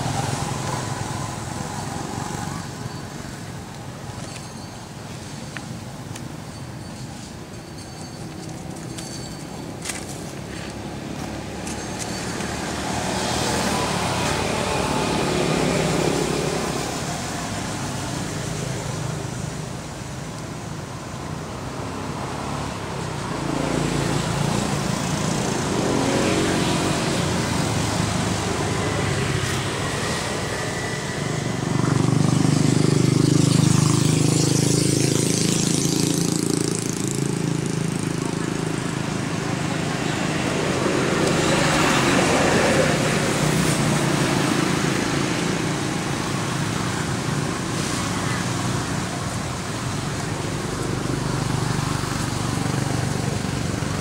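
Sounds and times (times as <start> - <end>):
passing road vehicle engines: 0.0 - 54.0.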